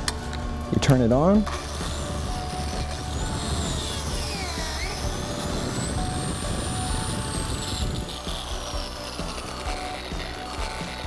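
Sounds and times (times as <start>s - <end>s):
biscuit joiner cutting wood: 1.0s - 11.0s.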